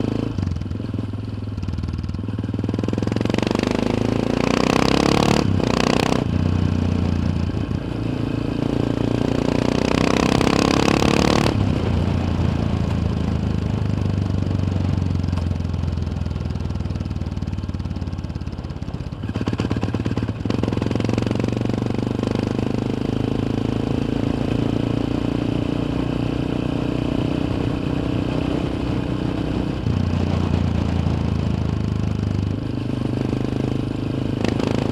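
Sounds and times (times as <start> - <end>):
motorcycle engine revving: 0.0 - 15.4, 17.6 - 34.9.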